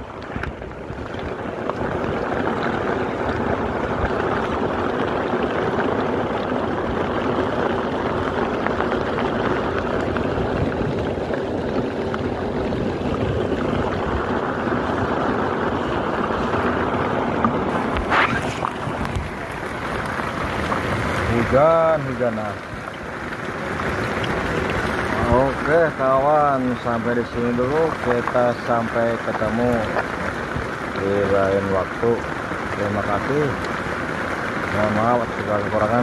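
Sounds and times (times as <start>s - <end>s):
boat motor running: 0.0s - 36.0s
water rushing past: 0.0s - 36.0s.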